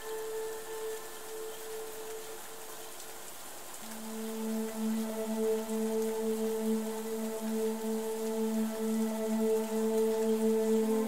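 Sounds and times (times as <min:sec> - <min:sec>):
soft ambient music: 0:00.0 - 0:11.0
steady rain hiss: 0:00.0 - 0:11.0.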